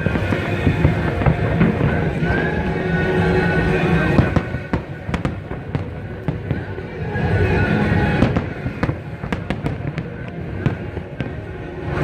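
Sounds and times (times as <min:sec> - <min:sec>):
background din: 0:00.0 - 0:12.0
fireworks bangs and cracks: 0:00.0 - 0:12.0.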